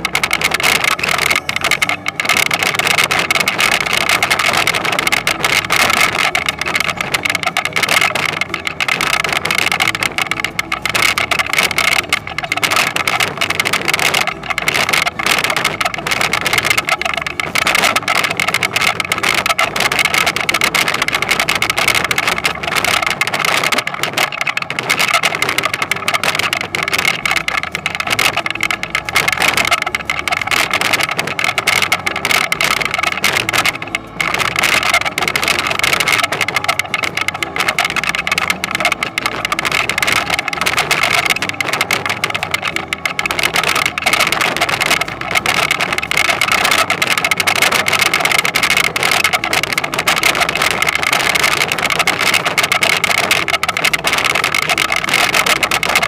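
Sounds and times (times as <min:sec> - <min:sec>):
rapid mechanical clatter: 0:00.0 - 0:56.0.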